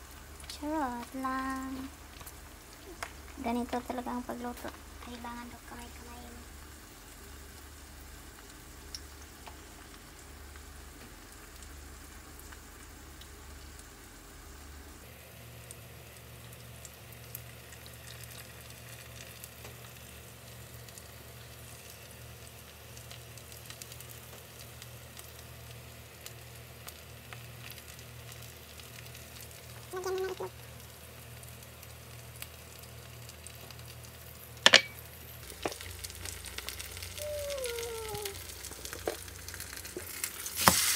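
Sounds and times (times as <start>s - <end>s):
pancake sizzling in frying pan: 0.0s - 40.9s.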